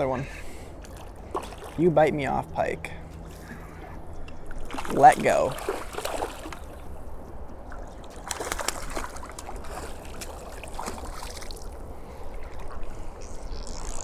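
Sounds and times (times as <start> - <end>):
river water sloshing: 0.0 - 14.0.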